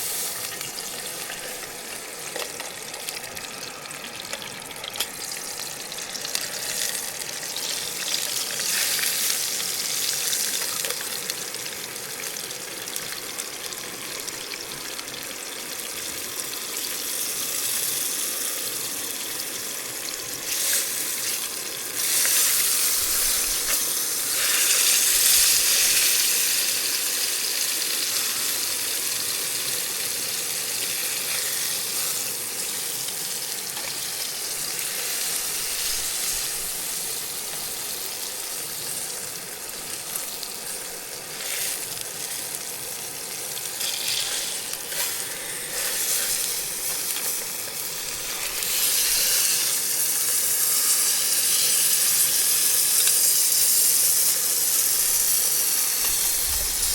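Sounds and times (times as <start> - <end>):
fish sizzling in a skillet: 0.0 - 56.9.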